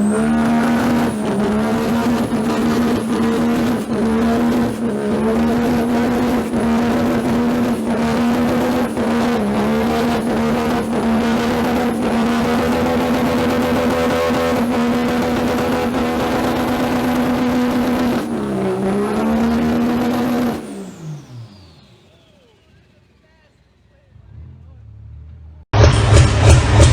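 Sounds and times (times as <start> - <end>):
diesel truck engine revving: 0.0 - 26.9.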